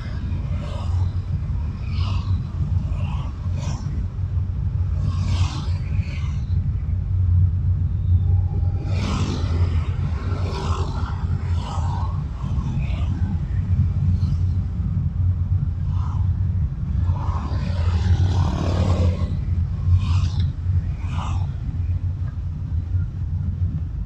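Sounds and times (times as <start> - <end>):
car road and engine rumble: 0.0 - 24.0
passing traffic rush: 0.0 - 24.0.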